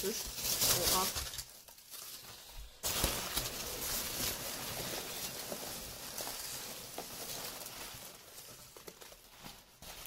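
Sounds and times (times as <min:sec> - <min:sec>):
packing peanuts rustling in a box: 0:00.0 - 0:10.0.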